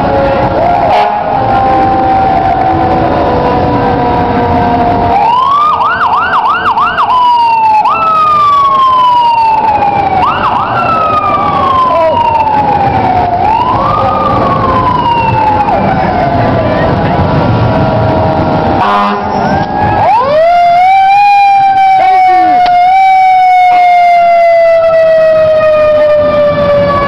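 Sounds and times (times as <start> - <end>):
fire truck siren: 0.0 - 27.0.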